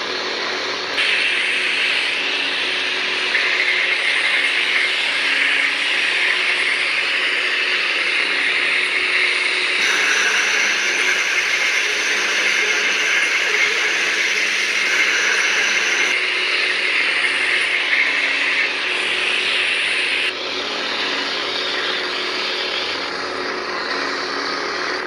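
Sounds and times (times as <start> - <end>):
lightsabers humming and hissing: 0.0 - 25.0.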